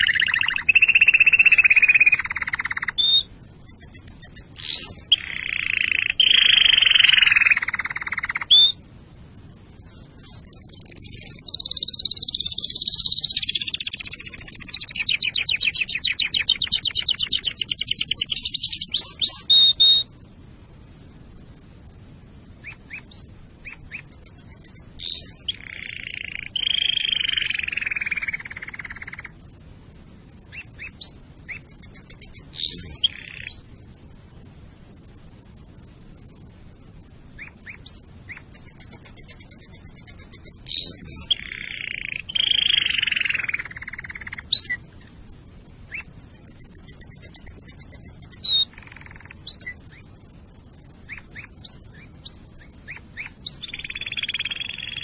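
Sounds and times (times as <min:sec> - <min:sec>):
canary singing trills: 0:00.0 - 0:08.9, 0:09.6 - 0:20.2, 0:22.5 - 0:29.6, 0:30.3 - 0:33.7, 0:37.2 - 0:55.0.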